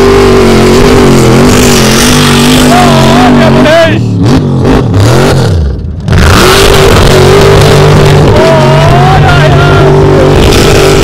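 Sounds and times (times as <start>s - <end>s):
off-road engine revving high: 0.0s - 11.0s.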